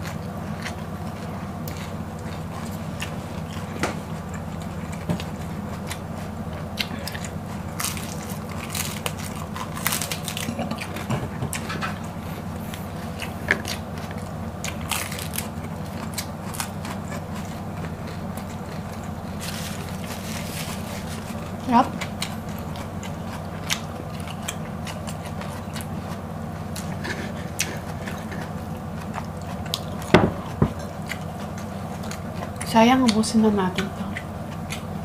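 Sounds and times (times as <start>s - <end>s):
crunching and chewing cabbage: 0.0s - 35.0s
steady low hum: 0.0s - 35.0s.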